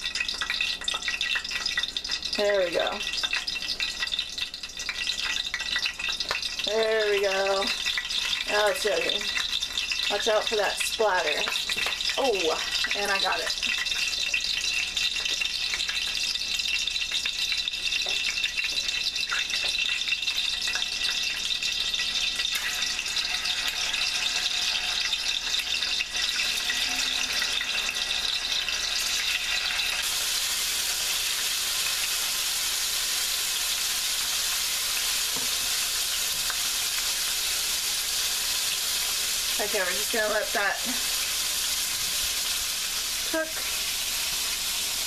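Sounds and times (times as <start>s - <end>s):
tofu frying in hot oil: 0.0s - 45.0s.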